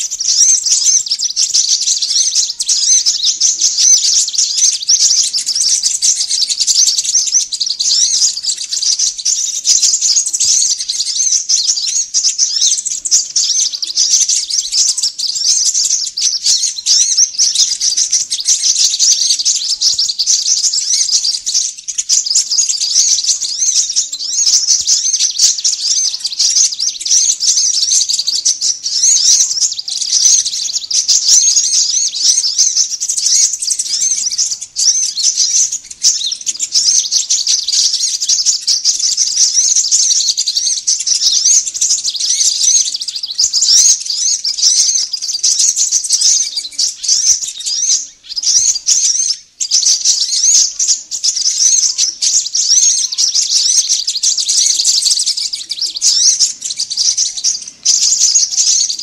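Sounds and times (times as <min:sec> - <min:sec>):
small birds chirping rapidly: 0:00.0 - 0:59.0.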